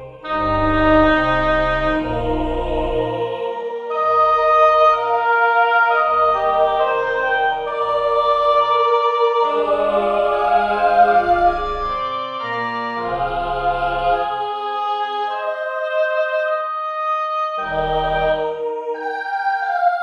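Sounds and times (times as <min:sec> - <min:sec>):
church organ playing chords: 0:00.0 - 0:18.6.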